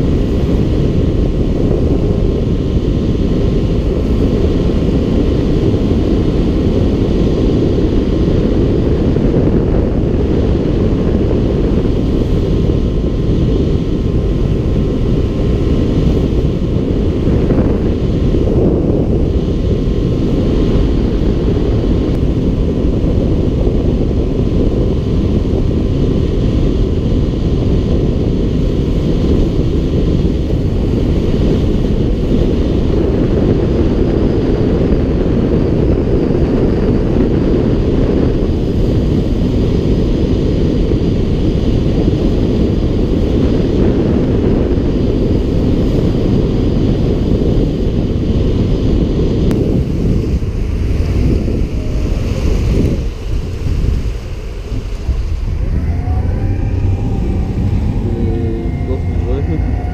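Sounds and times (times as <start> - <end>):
speed boat engine and hull: 0.0 - 59.9
wind buffeting microphone: 0.0 - 59.9.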